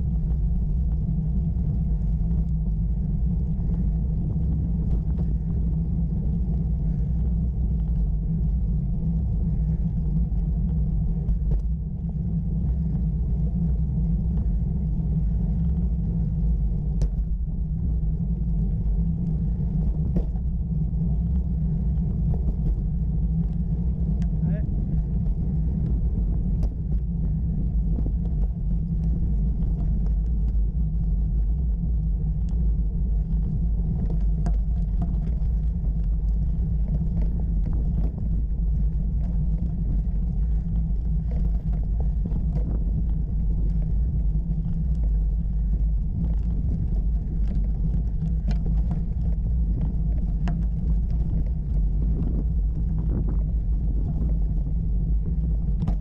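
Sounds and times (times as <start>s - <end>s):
bicycle riding over gravel: 0.0s - 56.0s
small clicks and rattles: 0.0s - 56.0s.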